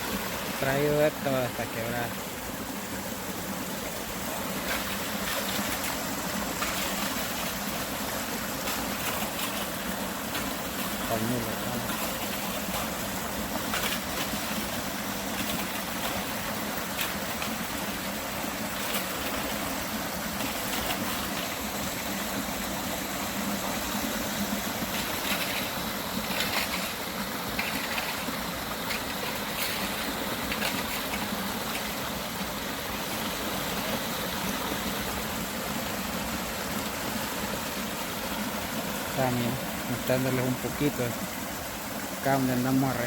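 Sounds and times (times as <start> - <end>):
rushing stream water: 0.0 - 43.0.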